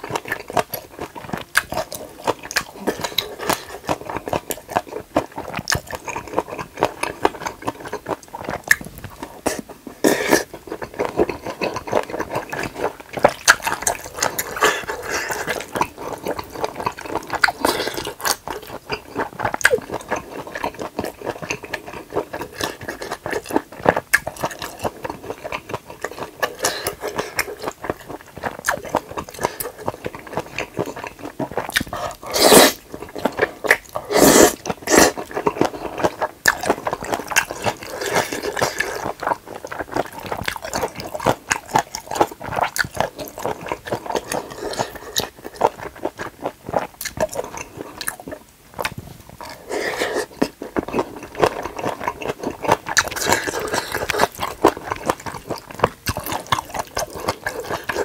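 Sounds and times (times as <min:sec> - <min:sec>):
wet sticky chewing: 0:00.0 - 0:58.0.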